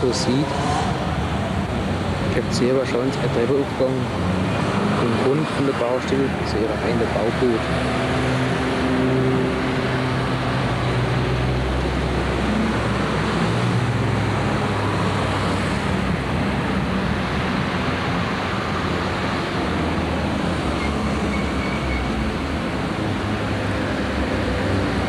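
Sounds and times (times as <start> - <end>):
road traffic noise: 0.0 - 25.0.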